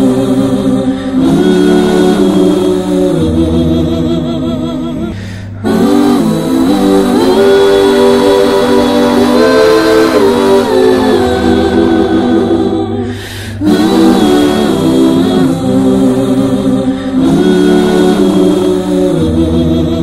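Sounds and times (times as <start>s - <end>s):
choir singing held chords: 0.0s - 20.0s
steady bass line: 0.0s - 20.0s.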